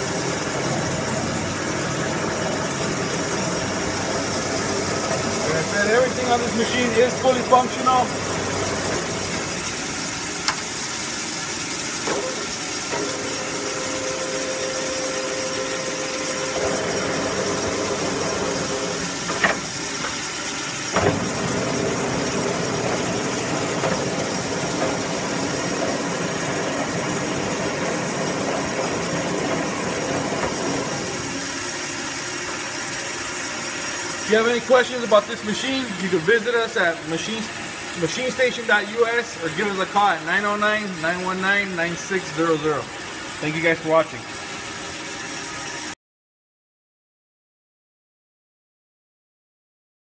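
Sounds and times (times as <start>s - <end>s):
surface grinder humming: 0.0s - 45.9s.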